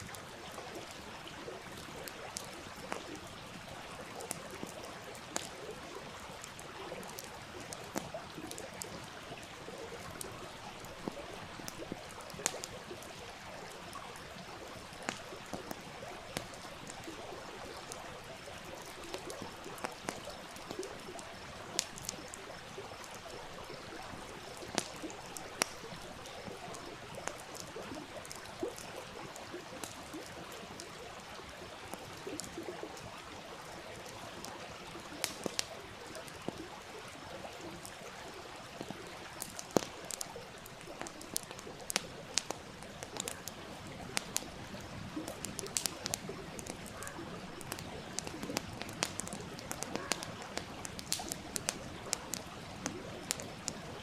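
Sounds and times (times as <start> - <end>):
campfire crackling and popping: 0.0 - 54.0
stream flowing: 0.0 - 54.0.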